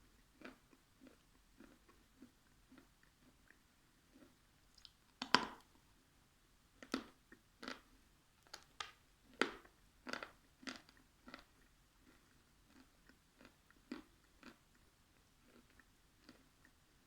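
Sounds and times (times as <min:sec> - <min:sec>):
crunchy food chewing: 0:00.1 - 0:05.7, 0:06.8 - 0:16.8.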